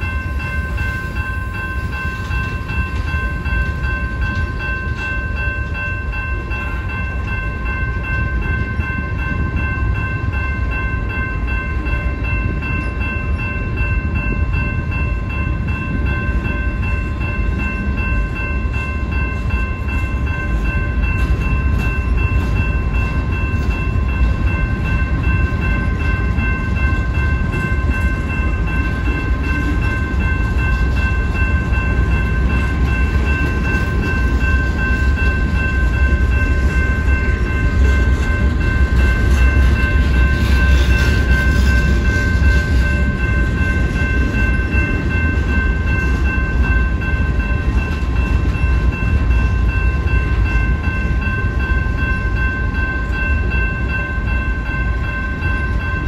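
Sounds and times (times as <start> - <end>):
crossing warning bell ringing: 0.0 - 56.0
train wheels rumbling on rail: 0.0 - 56.0.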